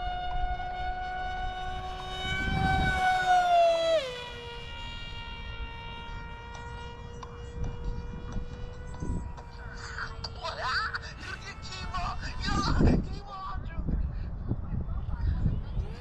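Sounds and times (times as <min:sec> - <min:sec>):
model airplane engine whining: 0:00.0 - 0:16.0.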